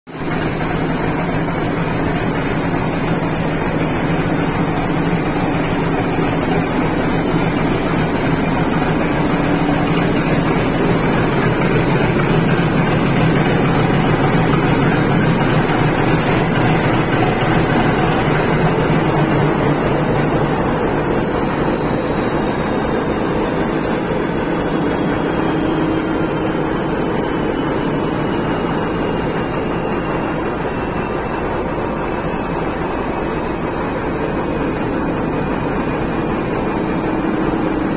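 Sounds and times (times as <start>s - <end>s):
diesel locomotive engine running: 0.1s - 37.9s.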